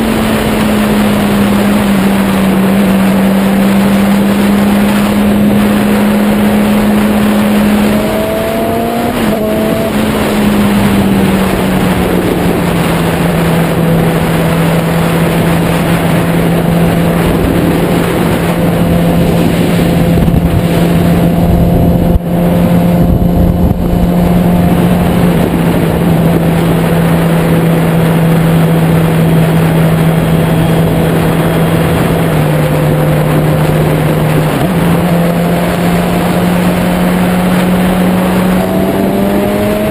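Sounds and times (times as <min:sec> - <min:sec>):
heavy wind noise: 0:00.0 - 0:39.9
motorcycle engine cruising: 0:00.0 - 0:39.9.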